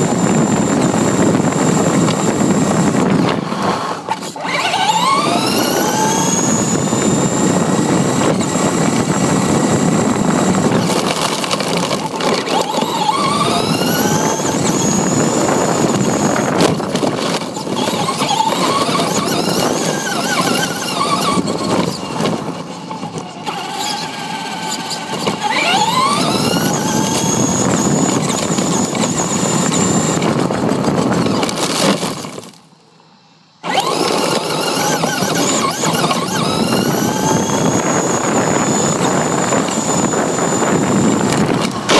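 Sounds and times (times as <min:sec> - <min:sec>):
electric motor whining: 0:00.0 - 0:32.6, 0:33.6 - 0:41.9
knobby tyres on asphalt and grass: 0:00.0 - 0:41.9.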